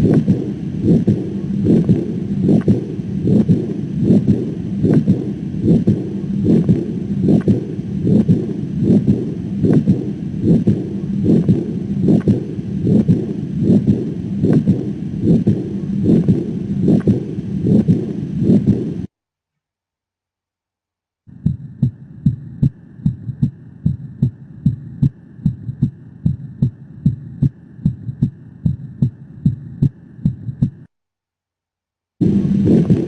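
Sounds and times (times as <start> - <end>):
heartbeat through stethoscope: 0.0 - 19.1, 21.3 - 30.9, 32.2 - 33.0.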